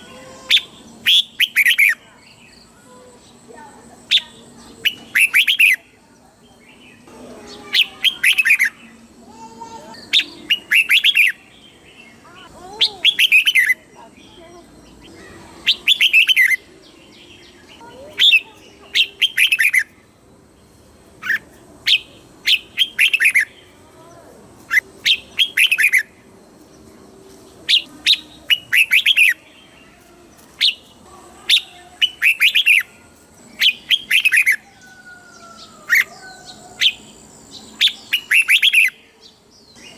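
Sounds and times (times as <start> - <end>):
bulbul singing: 0.0 - 26.9, 27.5 - 39.9.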